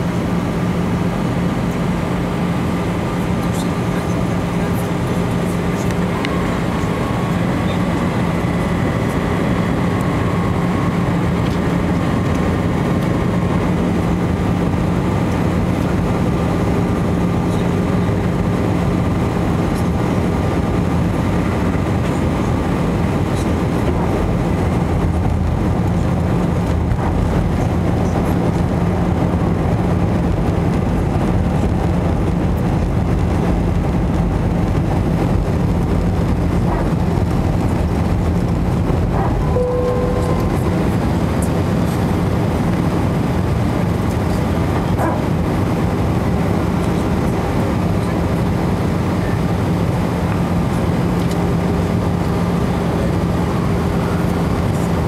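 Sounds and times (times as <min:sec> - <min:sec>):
airliner cabin engine rush: 0:00.0 - 0:55.0
faint steady whines: 0:00.0 - 0:55.0
steady low hum: 0:00.0 - 0:55.0.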